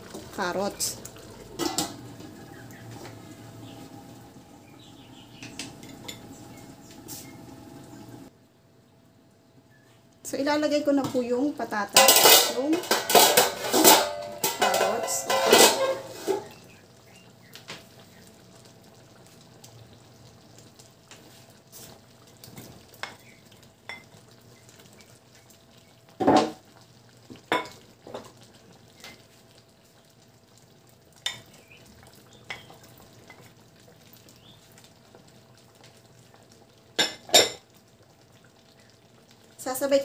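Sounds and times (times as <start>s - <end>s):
stew sizzling: 0.0s - 40.0s.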